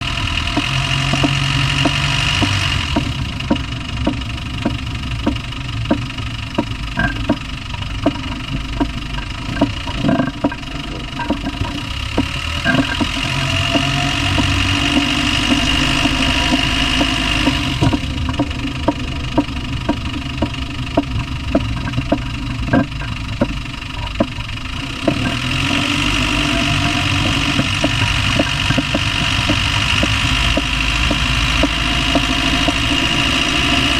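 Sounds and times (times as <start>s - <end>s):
diesel engine running: 0.0s - 33.9s
sharp regular engine knock: 0.0s - 33.9s.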